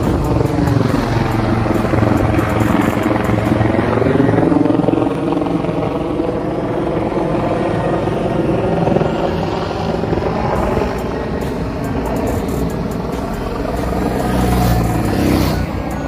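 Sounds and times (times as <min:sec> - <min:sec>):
helicopter rotor beat: 0:00.0 - 0:16.0.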